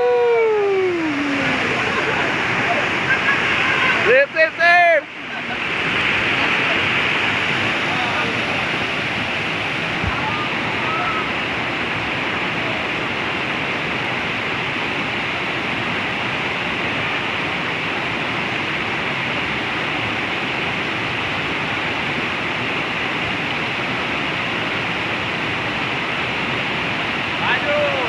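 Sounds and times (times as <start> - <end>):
white water rushing over boulders: 0.0 - 28.0.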